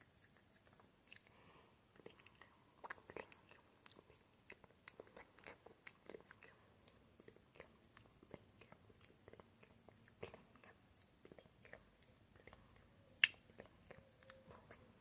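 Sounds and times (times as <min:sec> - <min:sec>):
tongue clicks and lip smacks: 0:02.0 - 0:15.0.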